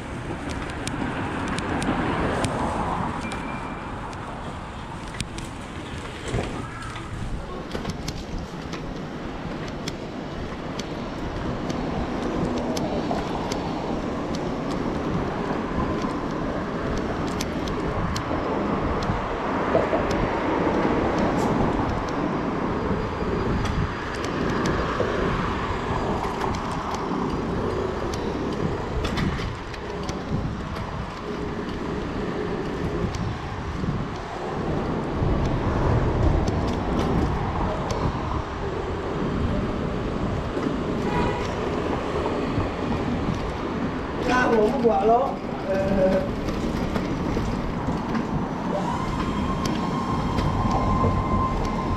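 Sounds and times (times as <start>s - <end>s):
passing cars and scooters: 0.0s - 51.9s
wind rumbling on microphone: 0.0s - 51.9s.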